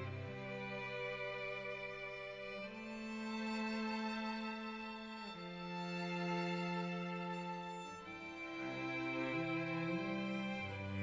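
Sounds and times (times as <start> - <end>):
held string notes music: 0.0 - 11.0.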